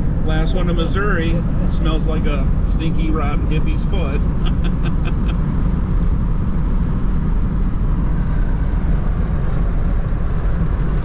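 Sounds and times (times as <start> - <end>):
road and engine rumble in vehicle: 0.0 - 11.0.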